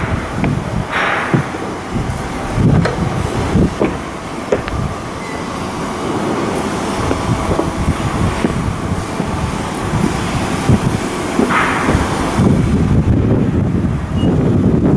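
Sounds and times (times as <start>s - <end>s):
metal knocks and clanks: 0.0s - 12.7s
machinery rumble: 0.0s - 14.9s.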